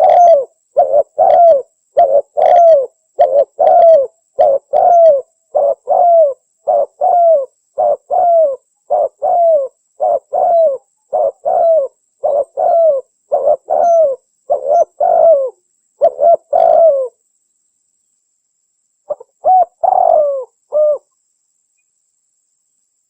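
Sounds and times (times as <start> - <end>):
dove cooing: 0.0 - 17.2, 19.1 - 21.1.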